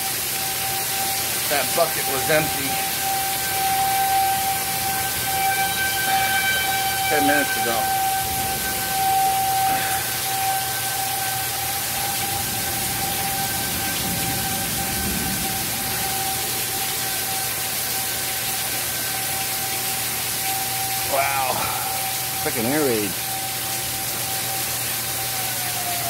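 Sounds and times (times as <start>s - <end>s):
heavy rain hissing: 0.0s - 26.0s
tornado warning siren: 0.0s - 26.0s.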